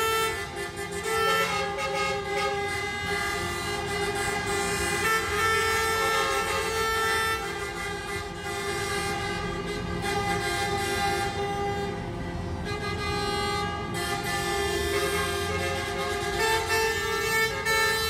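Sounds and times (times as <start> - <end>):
horns honking together: 0.0 - 18.0
road traffic rumble: 0.0 - 18.0.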